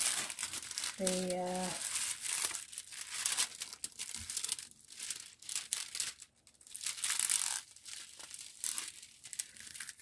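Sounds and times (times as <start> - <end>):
canvas and plastic crinkling: 0.0 - 10.0.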